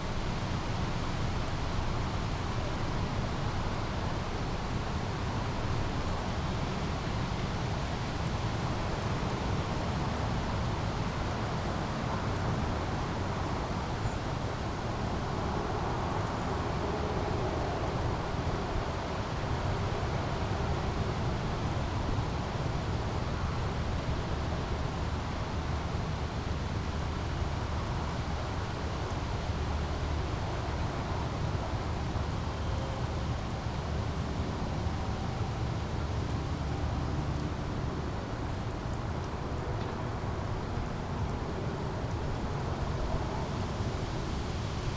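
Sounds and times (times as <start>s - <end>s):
brook flowing: 0.0s - 44.9s.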